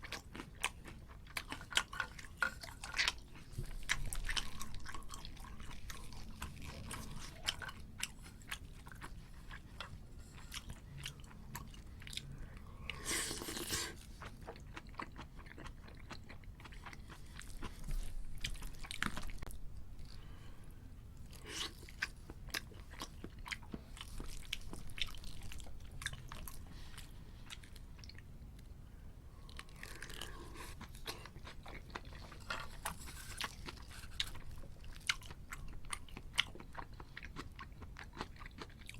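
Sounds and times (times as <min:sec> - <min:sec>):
chewing crunchy food: 0:00.0 - 0:20.4, 0:21.2 - 0:28.8, 0:29.4 - 0:38.9.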